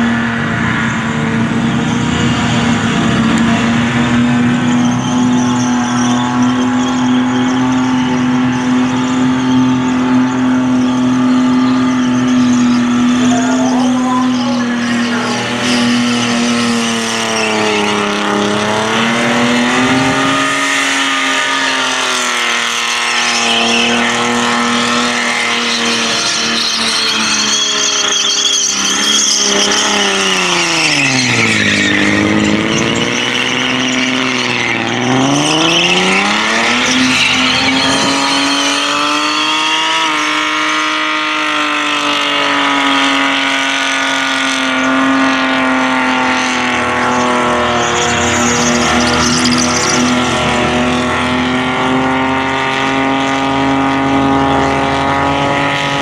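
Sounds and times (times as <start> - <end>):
car engine revving high: 0.0 - 56.0
tyres screeching: 0.6 - 56.0.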